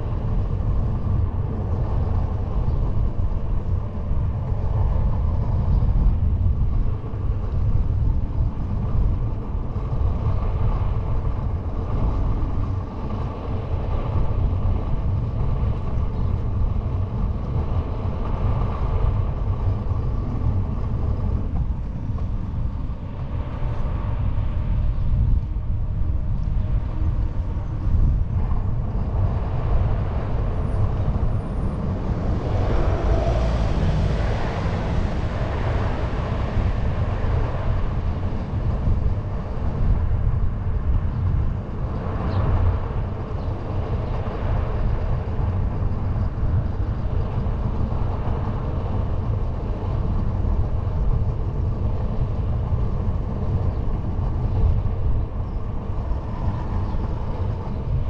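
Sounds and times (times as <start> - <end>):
tyres rumbling on asphalt: 0.0 - 58.0
wind rushing on microphone: 0.0 - 58.0.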